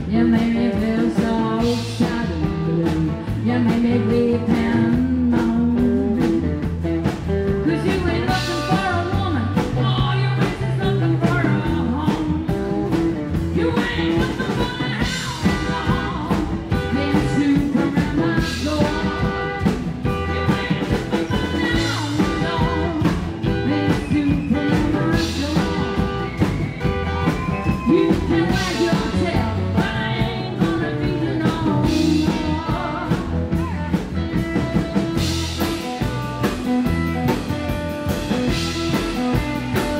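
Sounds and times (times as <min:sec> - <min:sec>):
woman singing: 0:00.0 - 0:36.6
drum kit beat: 0:00.0 - 0:39.9
electric and acoustic guitars: 0:00.0 - 0:39.9
upright double bass: 0:00.0 - 0:39.9.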